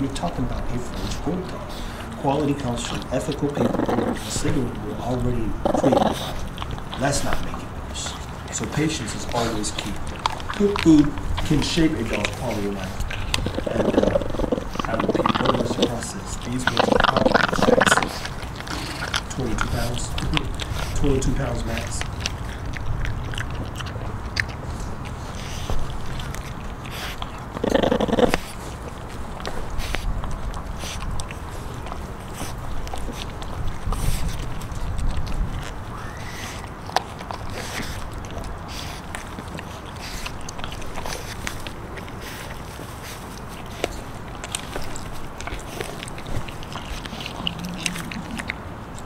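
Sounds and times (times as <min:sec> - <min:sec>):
puppy chewing bones: 0:00.0 - 0:49.0.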